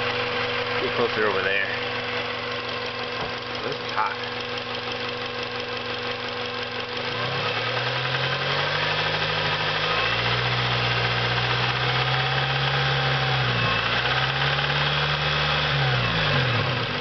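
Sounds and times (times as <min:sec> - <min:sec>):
car engine running with knock: 0:00.0 - 0:17.0.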